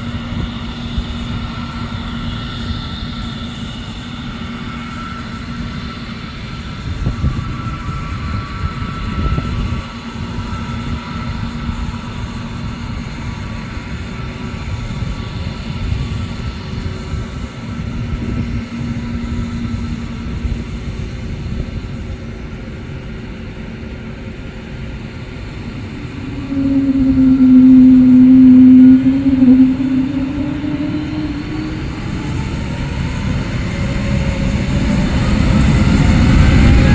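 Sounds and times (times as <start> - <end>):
jet engines droning rumble: 0.0 - 36.9.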